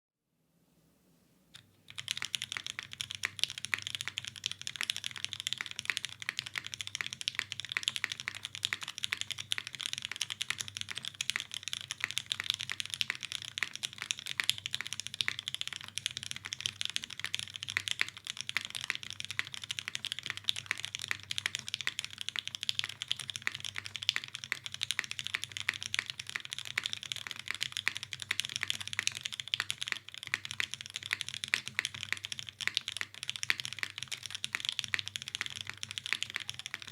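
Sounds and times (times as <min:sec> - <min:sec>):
fast typing on mechanical keyboard: 0:01.9 - 0:36.9.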